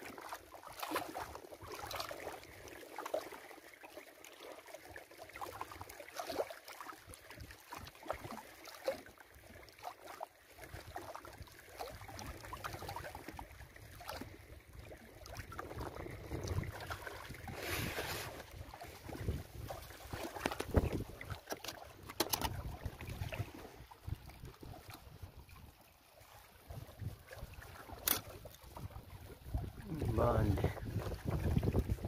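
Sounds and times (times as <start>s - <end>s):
lake water lapping: 0.0s - 32.0s.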